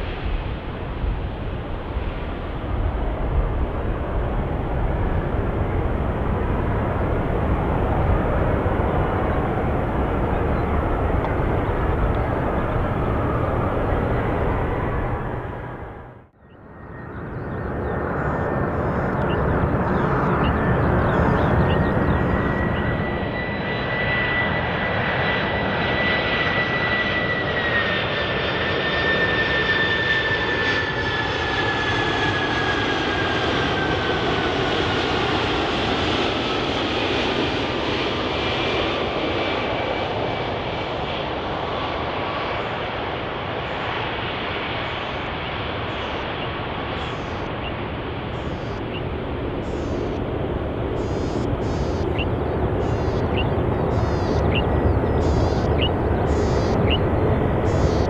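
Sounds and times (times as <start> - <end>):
jet engine whine: 0.0 - 58.0.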